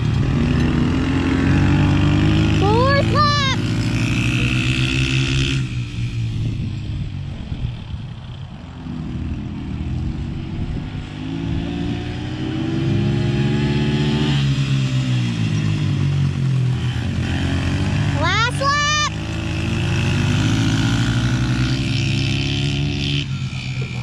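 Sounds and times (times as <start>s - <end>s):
pit bike engines racing: 0.0s - 24.0s.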